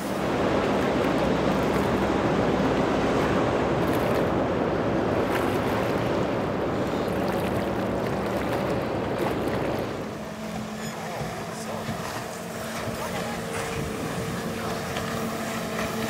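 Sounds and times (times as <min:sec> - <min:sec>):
motorboat engines humming: 0:00.0 - 0:16.0
rough surf: 0:00.0 - 0:16.0
wind: 0:00.0 - 0:16.0.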